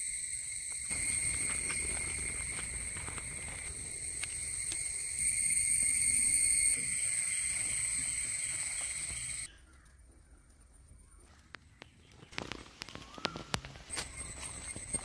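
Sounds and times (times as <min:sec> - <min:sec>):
insects droning: 0:00.0 - 0:09.9, 0:12.3 - 0:15.0.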